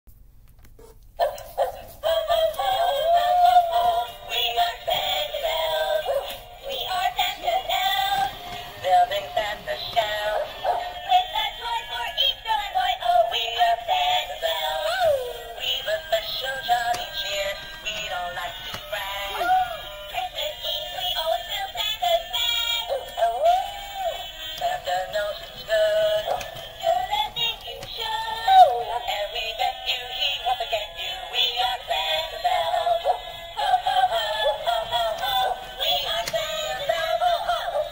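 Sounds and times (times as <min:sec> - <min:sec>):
tinny sung christmas song from toy: 0:01.2 - 0:37.9.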